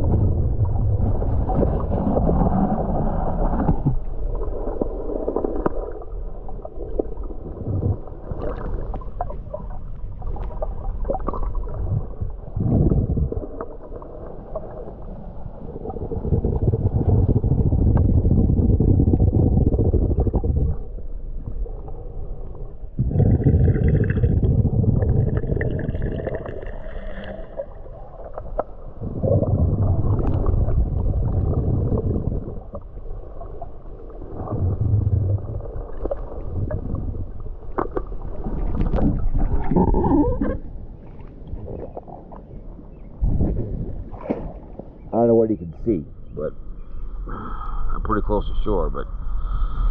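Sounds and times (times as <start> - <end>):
muffled underwater rumbling: 0.0 - 49.9.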